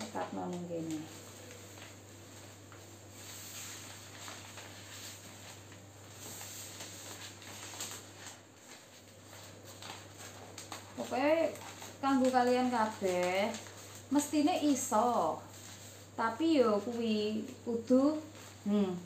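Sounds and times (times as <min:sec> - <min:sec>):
low steady hum: 0:00.0 - 0:19.0
wrapping paper rustling: 0:00.1 - 0:19.0.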